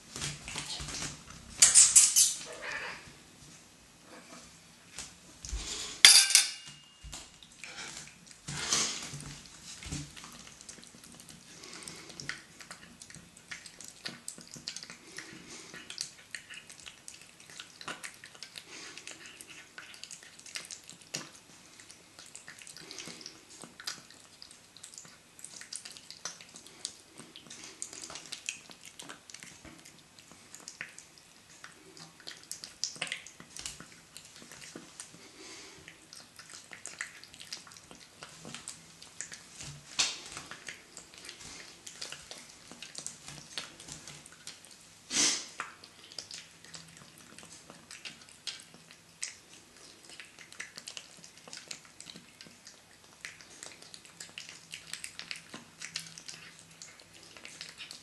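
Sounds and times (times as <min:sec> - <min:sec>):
cat chewing wet food: 0:07.0 - 0:58.0.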